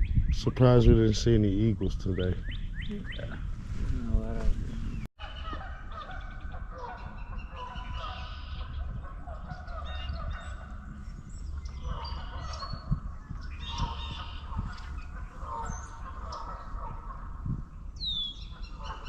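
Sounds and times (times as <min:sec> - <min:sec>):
steady low rumble: 0:00.0 - 0:05.1, 0:05.8 - 0:19.0
birds calling: 0:00.0 - 0:19.0.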